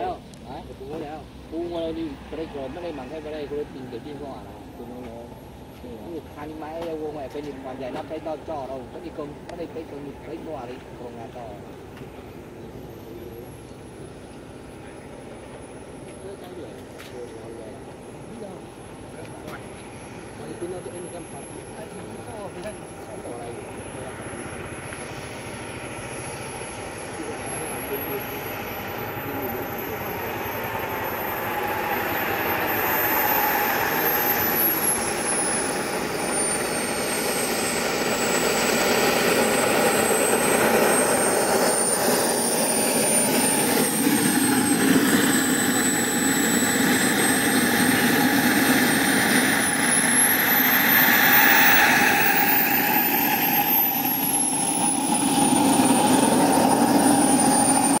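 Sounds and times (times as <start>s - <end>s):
jet turbine whining: 0.0s - 58.0s.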